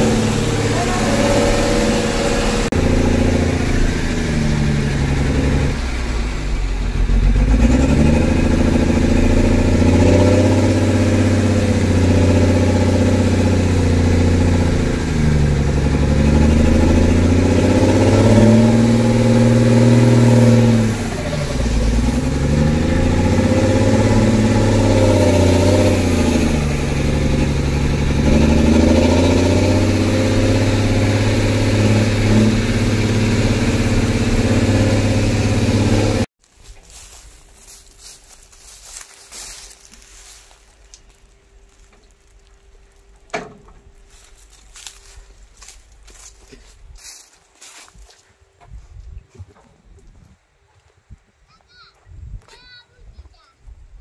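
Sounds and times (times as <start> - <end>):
truck engine while driving: 0.0 - 46.8.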